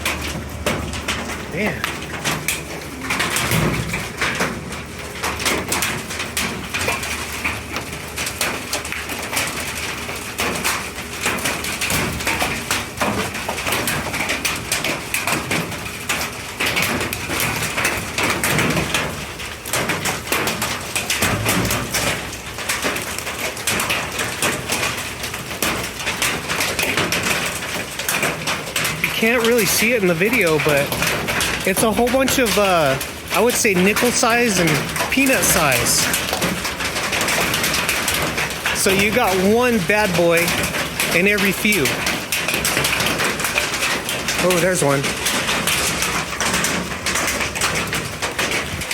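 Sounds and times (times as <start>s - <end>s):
hail clattering: 0.0s - 48.9s
rain hiss: 0.0s - 48.9s.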